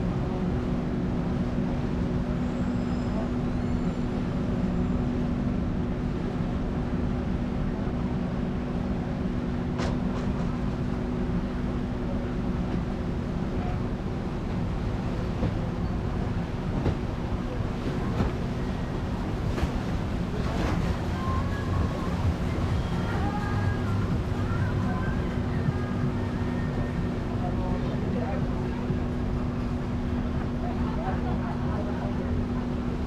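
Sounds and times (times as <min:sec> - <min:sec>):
ferry engine hum and rumble: 0:00.0 - 0:33.0.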